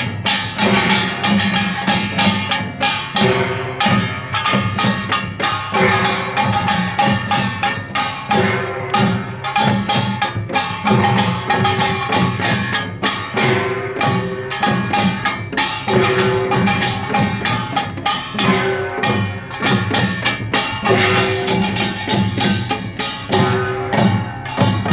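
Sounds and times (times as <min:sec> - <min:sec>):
drumbeats: 0:00.0 - 0:24.9
small hand gongs ringing: 0:00.0 - 0:24.9.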